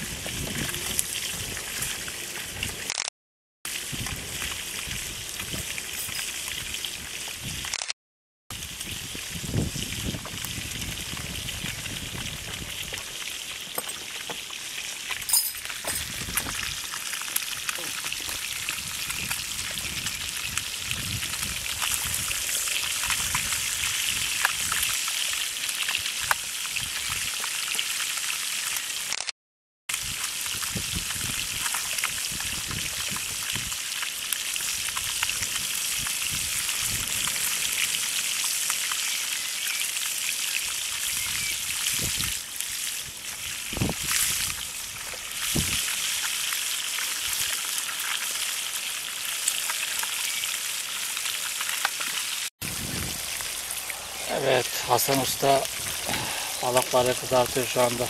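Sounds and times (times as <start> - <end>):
fish sizzling in hot oil: 0.0 - 2.9, 3.7 - 7.8, 8.5 - 29.2, 29.9 - 58.0.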